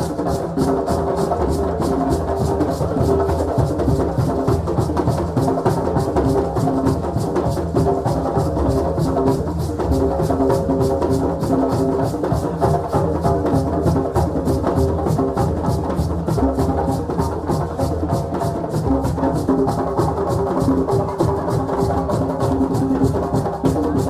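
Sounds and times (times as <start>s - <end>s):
drums playing fast rhythm: 0.0s - 24.0s.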